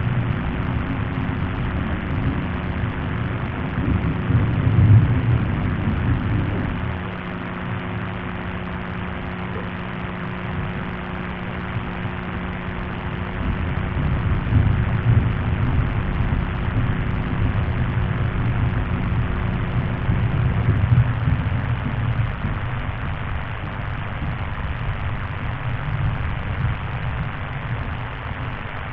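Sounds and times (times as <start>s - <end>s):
constant rumbling noise: 0.0s - 28.9s
steady low hum: 0.0s - 28.9s.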